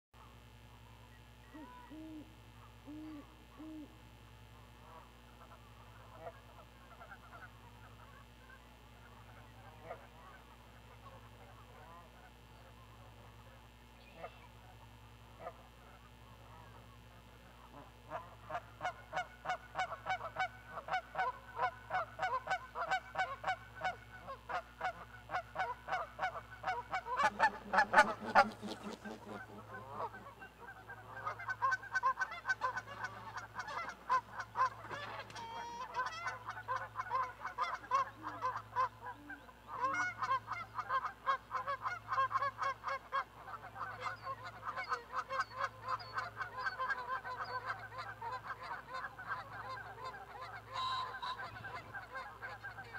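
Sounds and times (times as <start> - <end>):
geese honking: 4.6 - 52.9.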